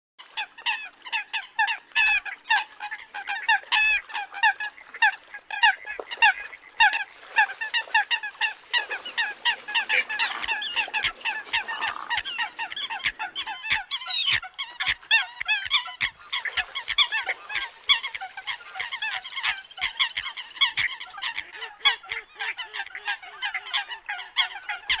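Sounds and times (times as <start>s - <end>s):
flock of coots calling: 0.2s - 25.0s.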